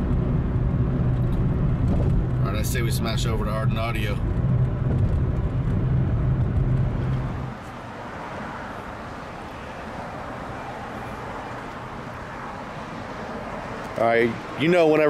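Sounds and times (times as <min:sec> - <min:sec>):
car engine and road drone: 0:00.0 - 0:15.0
outdoor street ambience: 0:00.0 - 0:15.0.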